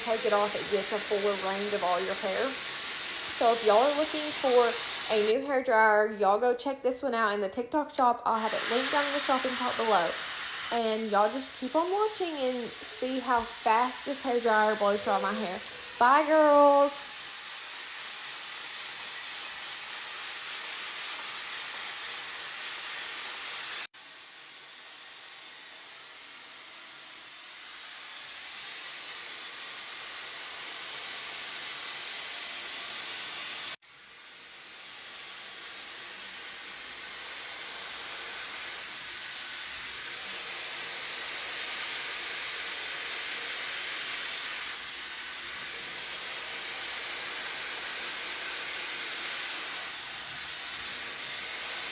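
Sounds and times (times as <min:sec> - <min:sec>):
hair dryer blowing: 0:00.0 - 0:05.4, 0:08.3 - 0:51.9.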